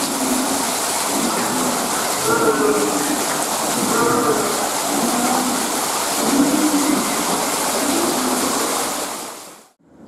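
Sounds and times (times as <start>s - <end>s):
water splashing onto rocks: 0.0s - 9.5s.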